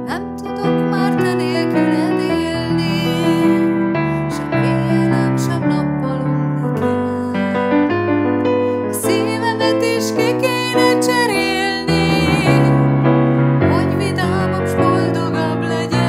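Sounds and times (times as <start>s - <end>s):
woman singing with vibrato: 0.0s - 7.6s, 8.9s - 12.9s, 13.6s - 16.0s
digital piano chords: 0.0s - 16.0s.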